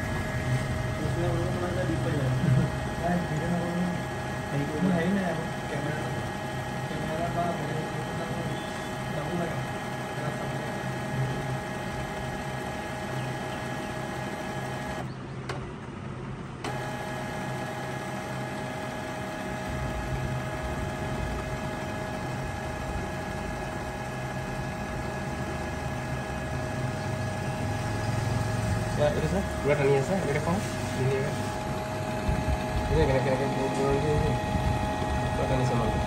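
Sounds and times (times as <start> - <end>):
printer motor whine: 0.0 - 15.5, 16.6 - 36.0.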